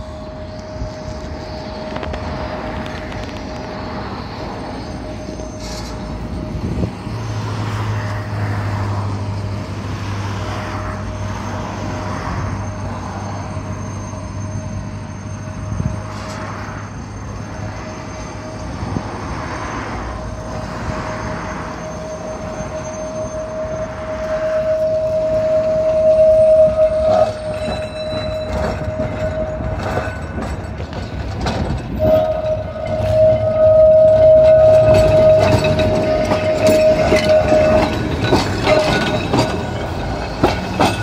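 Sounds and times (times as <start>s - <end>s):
electric tram whine: 0.0s - 41.0s.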